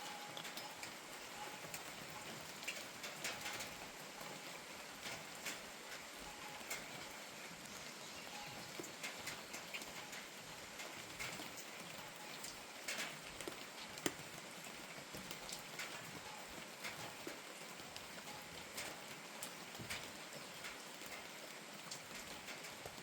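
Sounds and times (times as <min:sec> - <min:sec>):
rain falling: 0:00.0 - 0:23.0
raindrops tapping on hard surface: 0:00.0 - 0:23.0.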